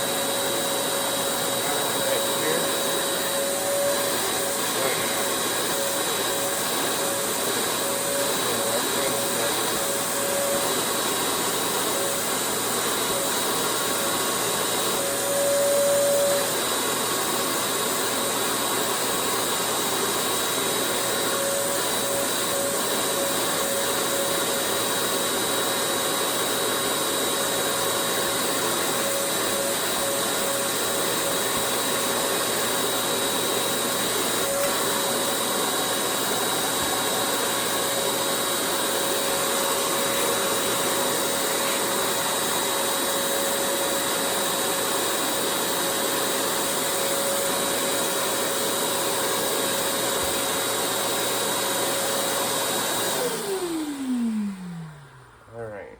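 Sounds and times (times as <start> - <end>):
vacuum motor whining: 0.0 - 55.6.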